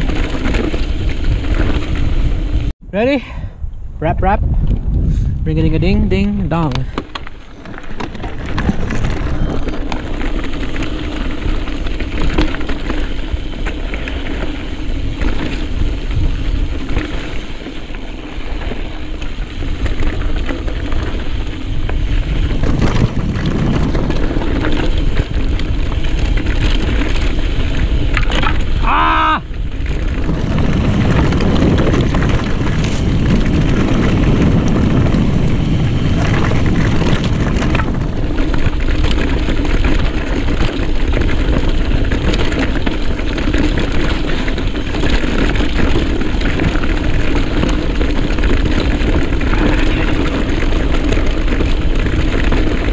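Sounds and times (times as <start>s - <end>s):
mountain bike rattling on rocks: 0.0s - 2.7s, 5.7s - 52.9s
wind buffeting microphone: 0.0s - 52.9s.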